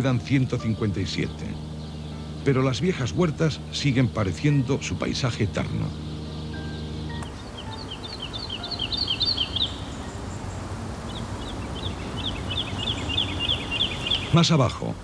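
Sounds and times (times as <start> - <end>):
small bird chirping: 0.0 - 14.8
low background hiss: 0.0 - 15.0.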